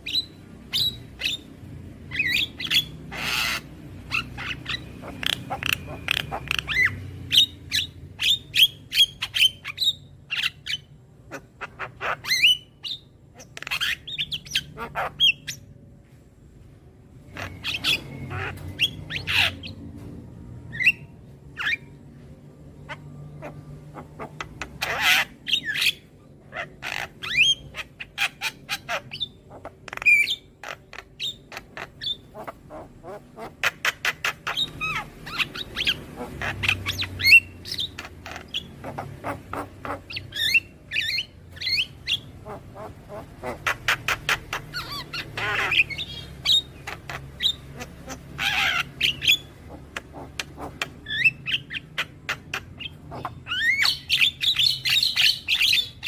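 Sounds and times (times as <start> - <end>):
myna bird chattering and squawking: 0.0 - 15.8, 17.2 - 20.0, 20.7 - 56.0.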